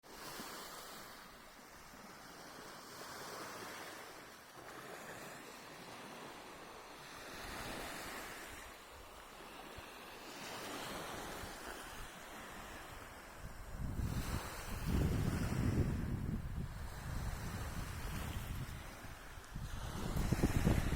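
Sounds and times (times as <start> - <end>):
sea waves washing onto shore: 0.0 - 20.9.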